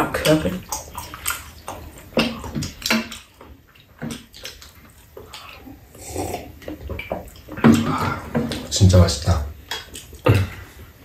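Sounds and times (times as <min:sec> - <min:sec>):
wet chewing and slurping: 0:00.2 - 0:08.8, 0:09.6 - 0:11.0.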